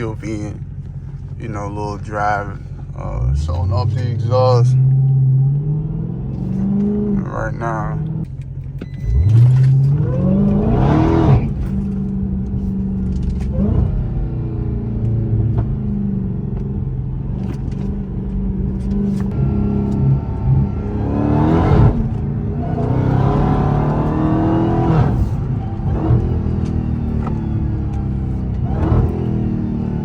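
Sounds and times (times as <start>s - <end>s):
car exhaust revving and cruising: 0.0s - 30.0s.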